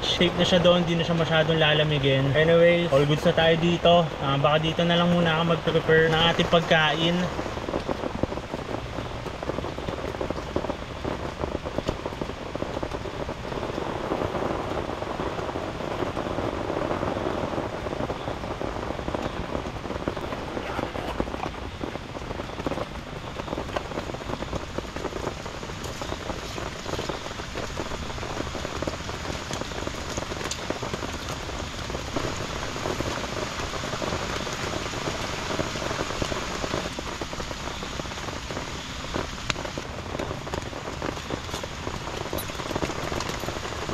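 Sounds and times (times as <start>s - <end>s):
heavy rain on a tent: 0.0s - 43.9s.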